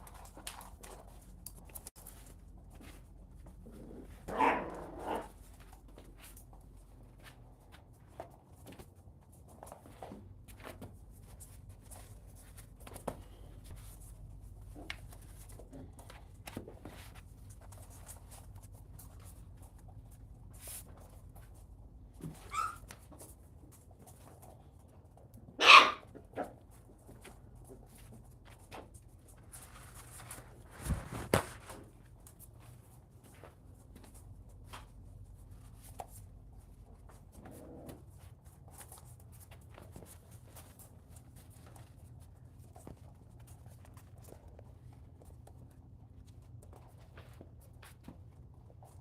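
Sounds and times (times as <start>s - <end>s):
faint clicks and scuffles: 0.0s - 49.0s.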